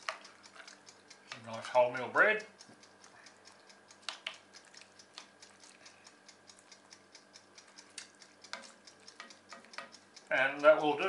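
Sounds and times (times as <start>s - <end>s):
faint rapid ticking: 0.0s - 11.0s.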